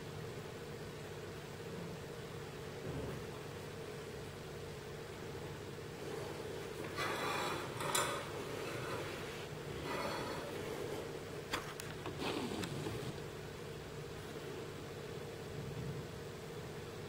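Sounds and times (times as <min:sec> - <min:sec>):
steady hiss and hum: 0:00.0 - 0:17.0.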